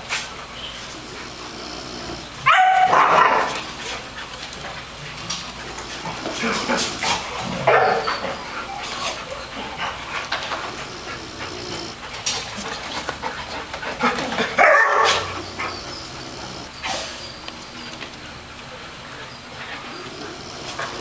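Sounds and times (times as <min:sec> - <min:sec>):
dog snoring: 0:00.6 - 0:04.2, 0:05.2 - 0:13.0, 0:14.4 - 0:18.2, 0:19.1 - 0:21.0.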